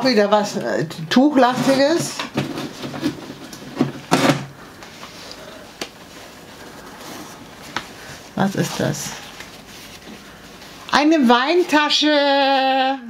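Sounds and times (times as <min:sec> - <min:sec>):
cardboard and cloth handling: 0:01.4 - 0:12.2.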